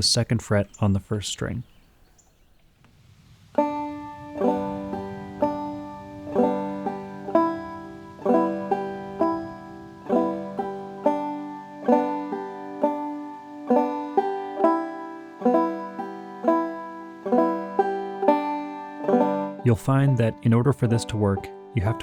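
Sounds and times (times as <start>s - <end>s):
banjo played clawhammer style: 3.6s - 22.0s.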